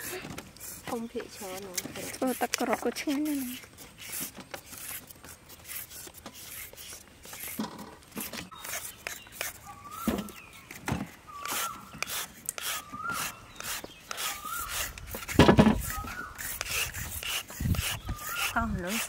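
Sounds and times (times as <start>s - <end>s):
peelers scraping carrots: 0.0s - 19.0s.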